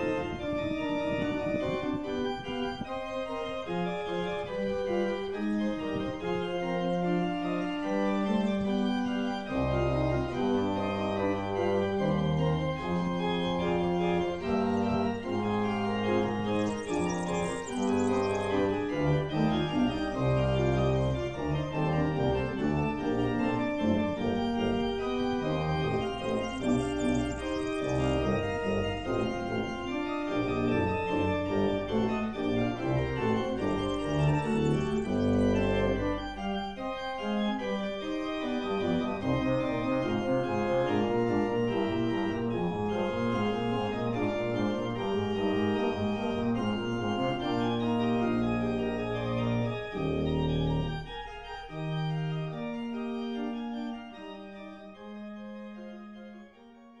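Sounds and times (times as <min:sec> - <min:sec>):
organ music with held chords: 0:00.0 - 0:57.0.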